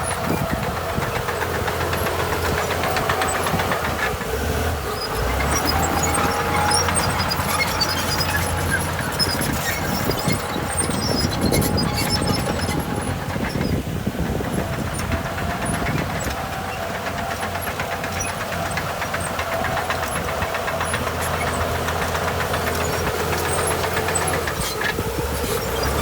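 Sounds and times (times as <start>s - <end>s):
heavy diesel engine knocking: 0.0s - 26.0s.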